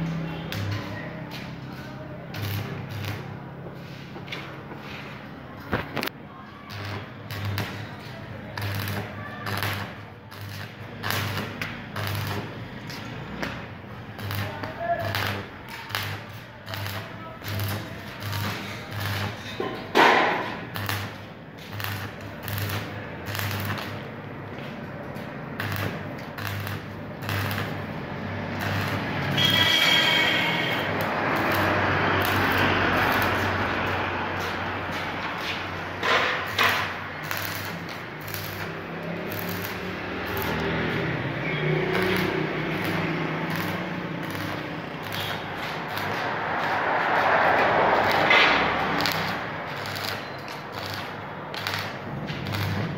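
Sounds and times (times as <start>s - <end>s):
arc welding crackle: 0.0s - 52.9s.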